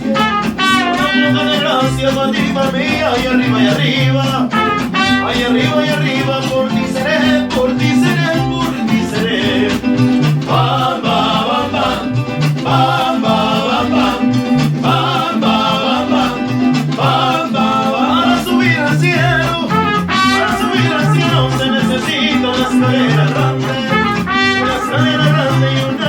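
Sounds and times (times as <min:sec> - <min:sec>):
mariachi band playing: 0:00.0 - 0:26.0
people singing: 0:00.0 - 0:26.0.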